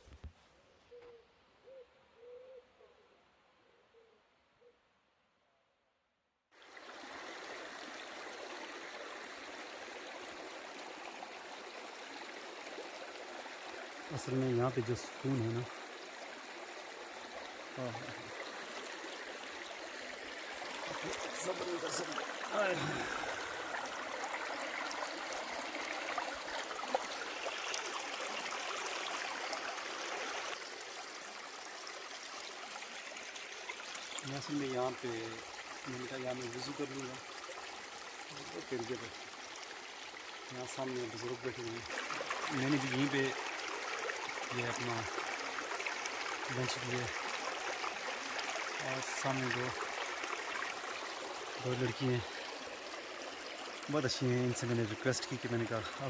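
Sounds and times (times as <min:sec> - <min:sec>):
stream flowing: 0:06.6 - 0:56.0.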